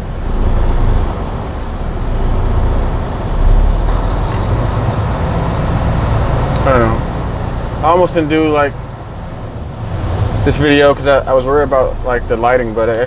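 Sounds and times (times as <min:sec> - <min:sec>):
diesel truck engine drone: 0:00.0 - 0:13.0
road noise: 0:00.0 - 0:13.0.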